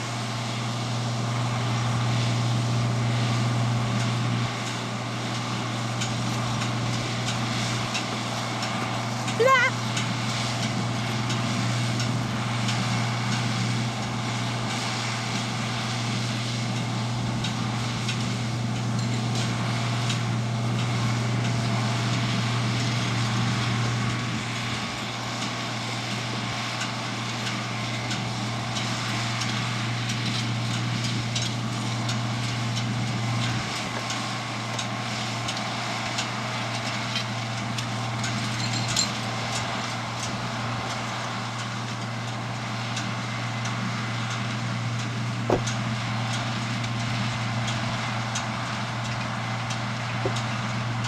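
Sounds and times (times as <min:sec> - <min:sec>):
hay baler working: 0:00.0 - 0:51.0
tractor engine under load: 0:00.0 - 0:51.0.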